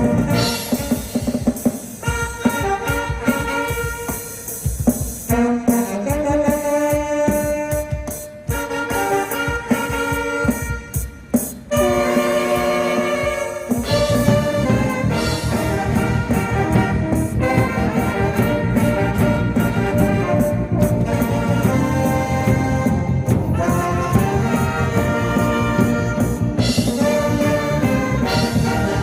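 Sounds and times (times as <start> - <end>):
live brass ensemble music: 0.0 - 29.0.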